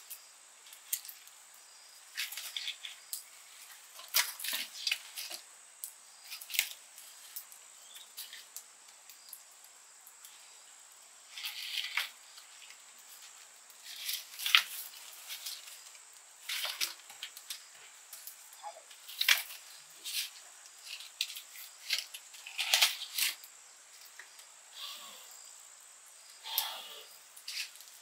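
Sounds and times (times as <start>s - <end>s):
dry corn stalks rustling and crackling: 0.0s - 24.6s, 26.4s - 28.0s.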